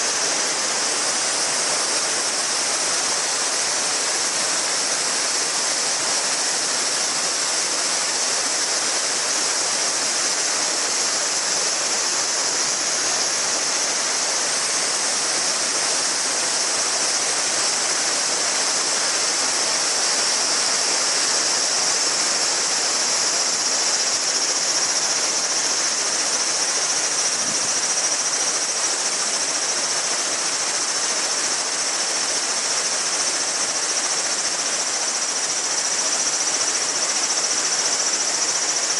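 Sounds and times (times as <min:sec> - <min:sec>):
cicadas buzzing: 0:00.0 - 0:38.9
river murmuring over stones: 0:00.0 - 0:38.9.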